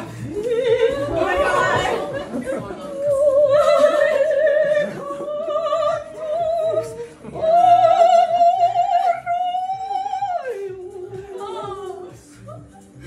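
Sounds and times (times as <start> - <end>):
soprano singing operatically: 0.0 - 13.0.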